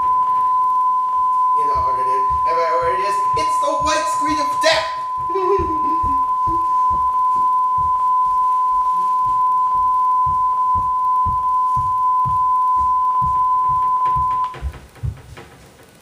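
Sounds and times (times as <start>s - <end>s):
high test tone: 0.0s - 14.8s.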